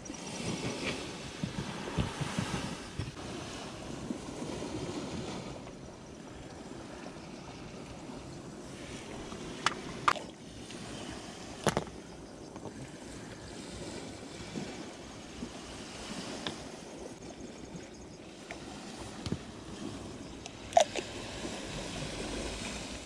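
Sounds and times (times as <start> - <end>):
sea waves rushing: 0.0 - 23.0
wind: 0.0 - 23.0.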